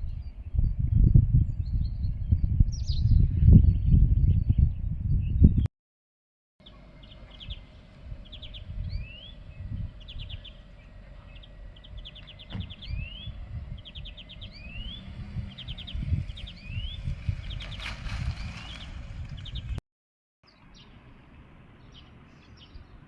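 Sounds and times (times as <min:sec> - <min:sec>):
songbird singing trill and whistle: 0:00.0 - 0:05.6, 0:06.6 - 0:19.7.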